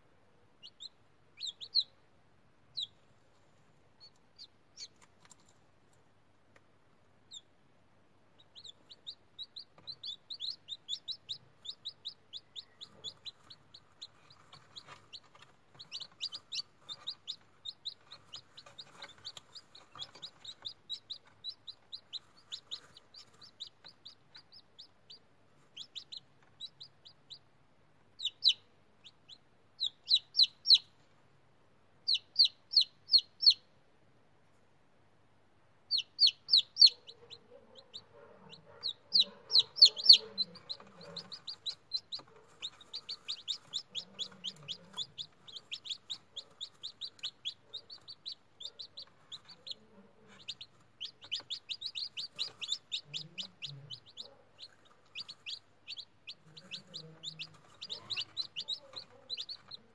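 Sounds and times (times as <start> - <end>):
chicks peeping: 0.5 - 31.3, 32.0 - 33.7, 35.8 - 59.9.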